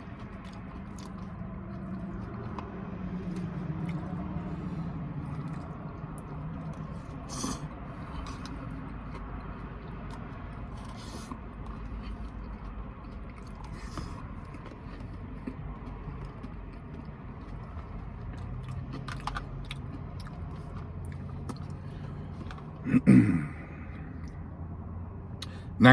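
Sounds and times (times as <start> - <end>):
person chewing crunchy food: 0.0 - 24.6.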